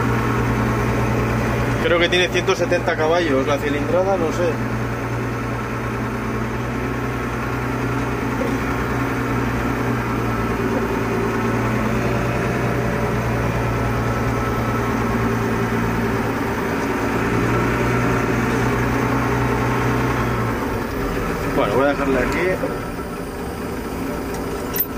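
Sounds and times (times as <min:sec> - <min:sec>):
diesel truck engine running: 0:00.0 - 0:24.9.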